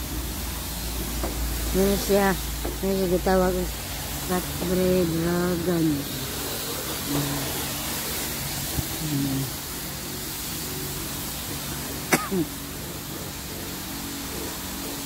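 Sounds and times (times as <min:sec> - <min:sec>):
pressure washer lance spraying water: 0:00.0 - 0:15.0.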